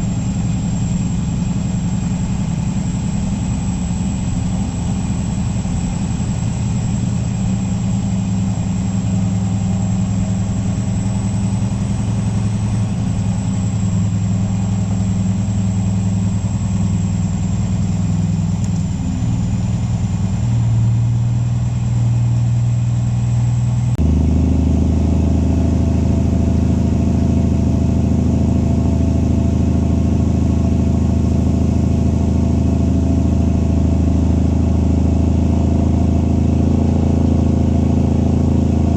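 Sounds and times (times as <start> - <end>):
diesel truck engine droning: 0.0 - 38.9.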